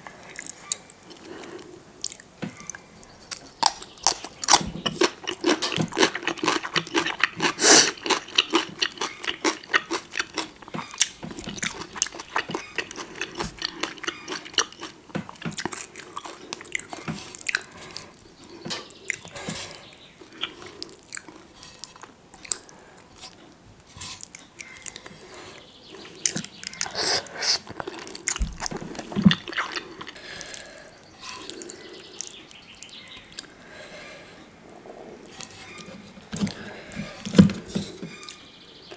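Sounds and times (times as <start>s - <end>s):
wet chewing of noodles: 0.2s - 38.6s.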